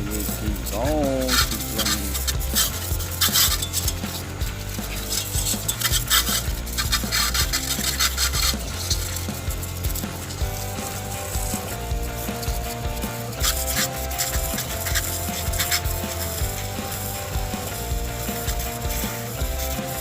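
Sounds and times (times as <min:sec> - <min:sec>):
background music with low bass: 0:00.0 - 0:20.0
scraping bursts: 0:00.0 - 0:20.0.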